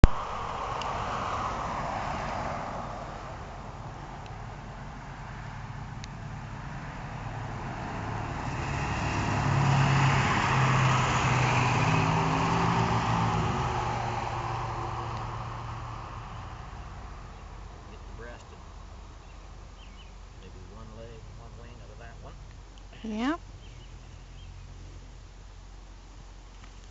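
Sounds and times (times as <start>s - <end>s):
vehicle driving past: 0.0s - 22.5s.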